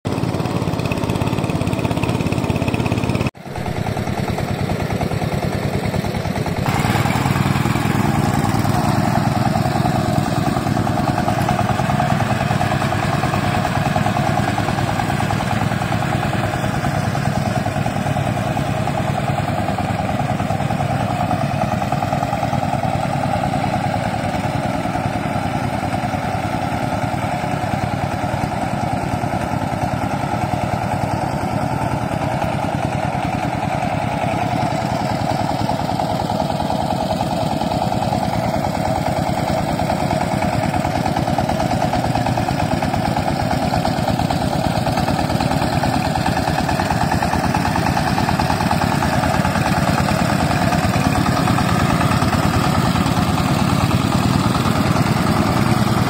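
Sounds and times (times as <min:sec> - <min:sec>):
small tiller engine running: 0:00.1 - 0:56.0.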